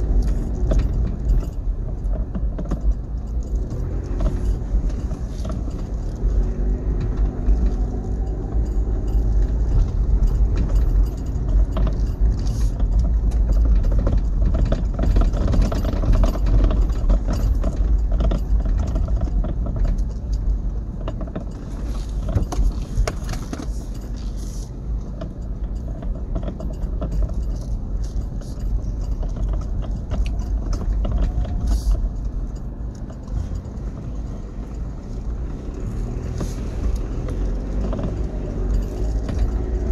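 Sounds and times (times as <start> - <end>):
engine and road rumble: 0.0 - 39.9
rattles and knocks from vehicle body: 0.0 - 39.9.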